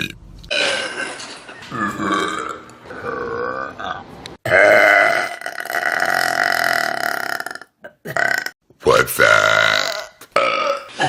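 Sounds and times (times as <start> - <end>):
people burping: 0.5 - 8.6, 9.4 - 11.0.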